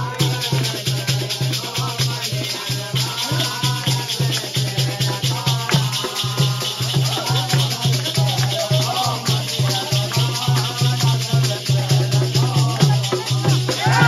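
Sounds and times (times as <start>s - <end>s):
drum beat: 0.0s - 14.0s
group of men singing: 0.0s - 14.0s
rattling percussion: 0.0s - 14.0s.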